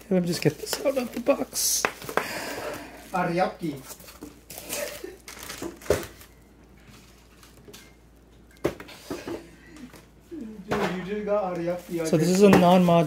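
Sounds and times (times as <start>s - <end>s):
bubble wrap and cardboard rustling: 0.1s - 9.0s, 11.2s - 13.0s.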